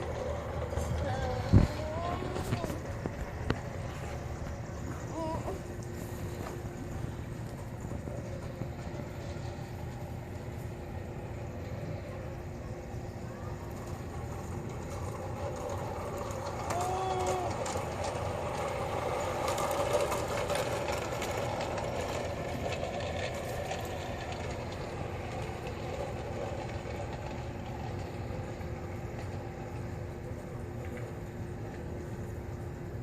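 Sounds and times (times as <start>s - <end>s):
model train running on track: 0.0s - 33.0s
wheels clicking over rail joints: 0.0s - 33.0s.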